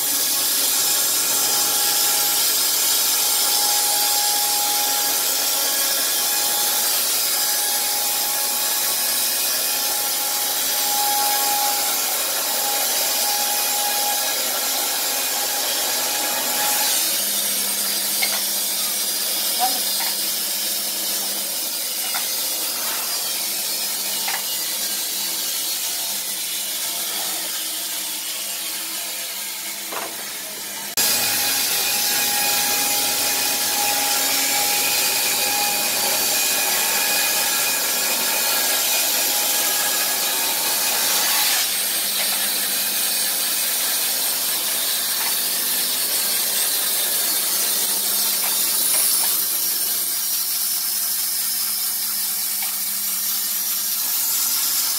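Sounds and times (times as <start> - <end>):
band saw cutting timber: 0.0 - 54.9.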